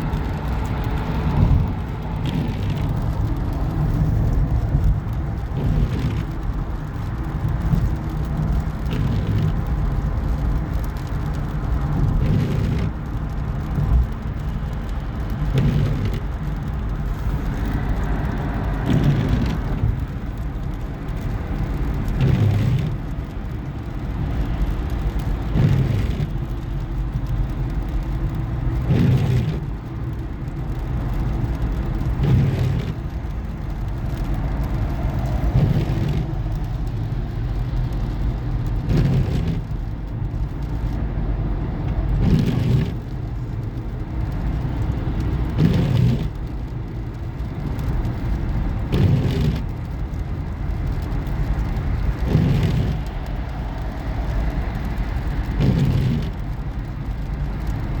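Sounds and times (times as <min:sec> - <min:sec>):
vehicle road noise: 0:00.0 - 0:58.0.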